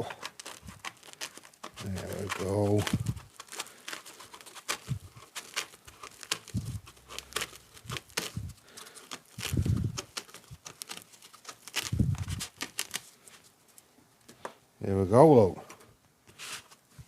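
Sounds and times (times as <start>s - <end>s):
foam tearing: 0.0s - 13.5s, 16.3s - 17.0s
foam clicking and crackling: 0.0s - 14.5s.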